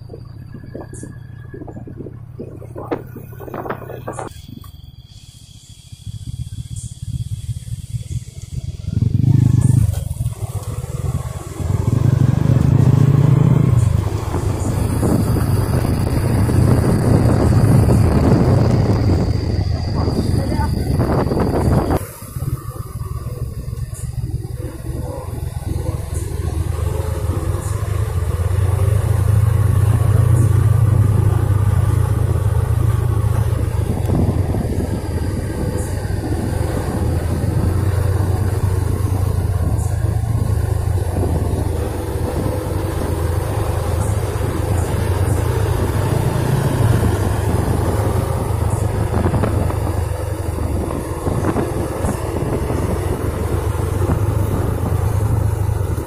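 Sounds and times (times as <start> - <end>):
truck diesel engines rumbling: 0.0 - 56.0.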